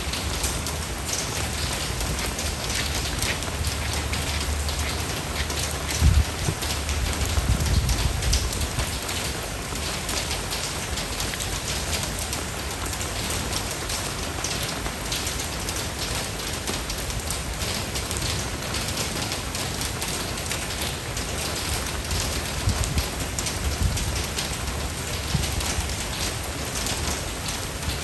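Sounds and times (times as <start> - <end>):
rain pattering on a surface: 0.0 - 28.0.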